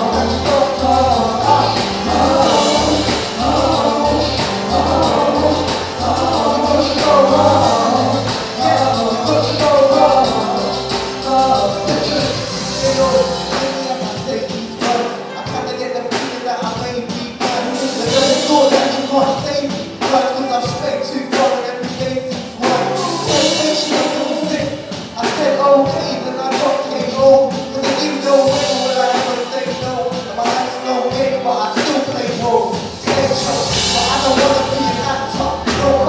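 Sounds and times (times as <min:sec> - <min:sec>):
gospel music with singing: 0:00.0 - 0:36.0.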